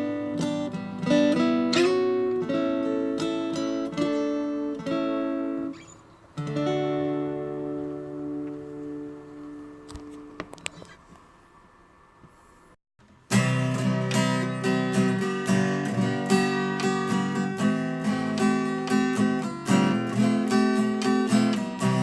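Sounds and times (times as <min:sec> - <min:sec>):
strummed acoustic guitar: 0:00.0 - 0:11.0, 0:13.0 - 0:22.0.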